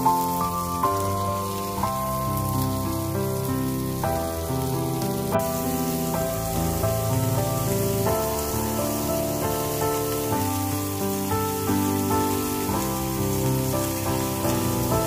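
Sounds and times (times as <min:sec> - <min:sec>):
background music of held notes: 0:00.0 - 0:15.0
food sizzling in oil: 0:00.0 - 0:15.0.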